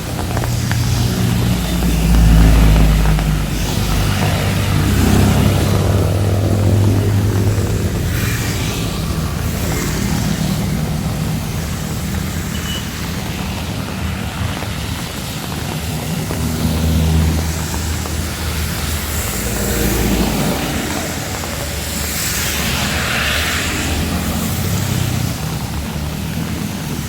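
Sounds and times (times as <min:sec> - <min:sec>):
heavy rain falling: 0:00.0 - 0:27.0
vehicles passing on wet street: 0:00.0 - 0:27.0.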